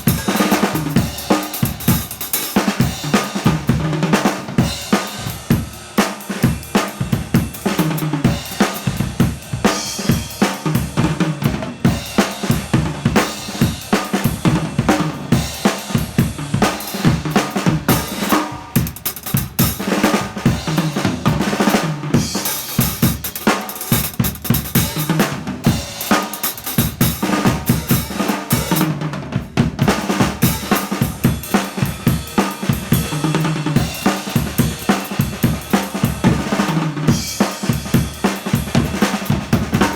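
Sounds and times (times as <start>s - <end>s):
drum kit beat: 0.0s - 39.9s.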